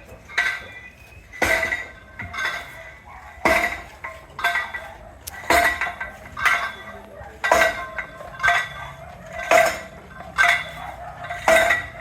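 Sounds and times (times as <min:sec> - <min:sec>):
hammer striking metal: 0:00.0 - 0:12.0.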